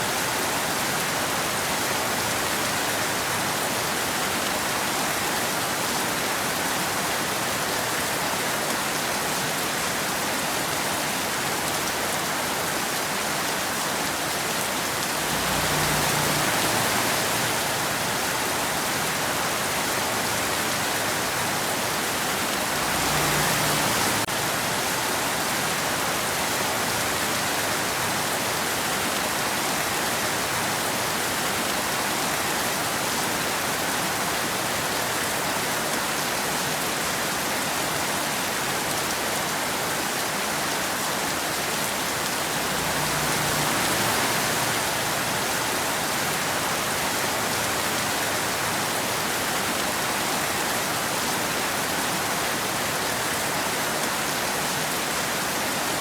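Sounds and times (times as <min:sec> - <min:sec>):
rain falling on a road: 0:00.0 - 0:56.0.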